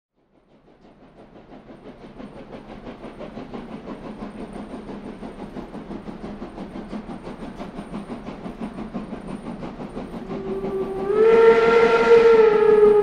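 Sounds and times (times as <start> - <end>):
train chugging rhythmically: 0.2 - 13.0
hiss: 0.4 - 13.0.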